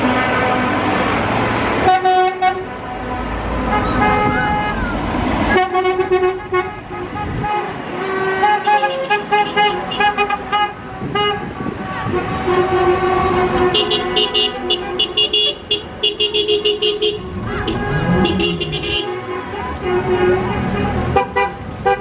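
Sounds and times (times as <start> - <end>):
vehicle horns tooting: 1.8 - 22.0.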